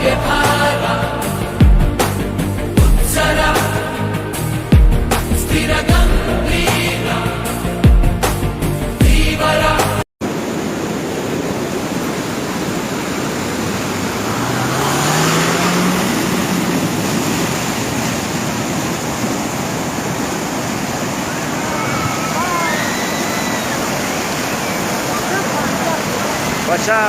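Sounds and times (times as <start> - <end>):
water rushing roar: 0.0 - 7.8, 9.1 - 27.0.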